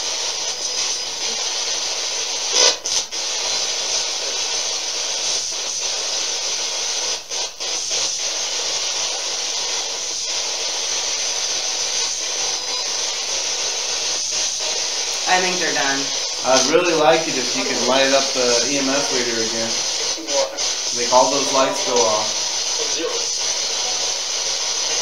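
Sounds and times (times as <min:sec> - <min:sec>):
radio sweep static hiss: 0:00.0 - 0:25.0.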